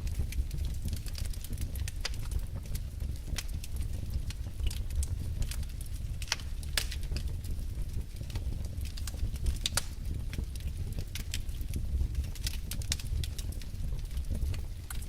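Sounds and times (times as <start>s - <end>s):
burning logs rumbling: 0.0s - 15.0s
fire crackling and popping: 0.0s - 15.0s.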